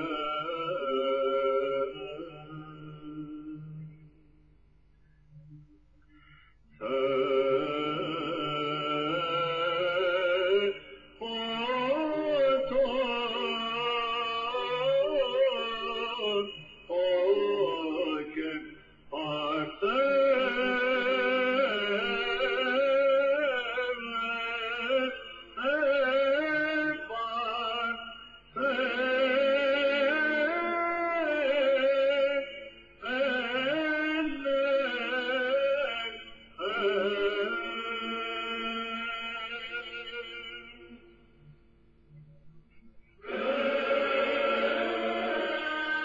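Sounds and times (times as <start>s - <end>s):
person chanting: 0.0s - 4.4s, 6.7s - 46.0s.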